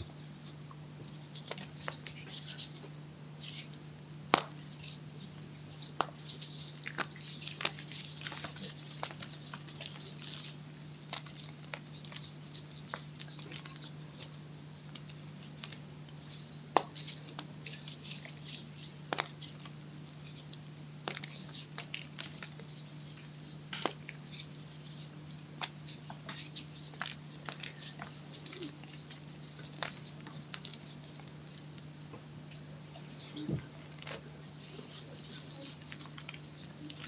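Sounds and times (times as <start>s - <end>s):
chalk crunching: 1.2s - 3.8s, 4.4s - 32.0s, 33.0s - 37.0s.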